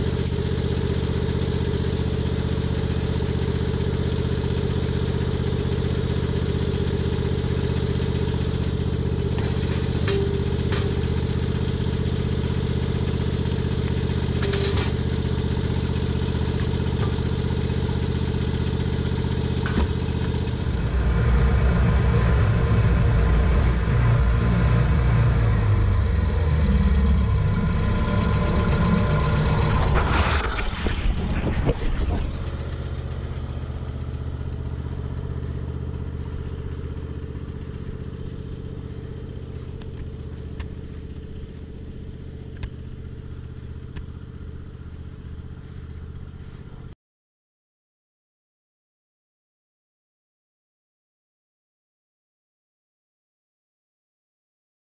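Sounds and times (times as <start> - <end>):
mower engine running: 0.0 - 46.9.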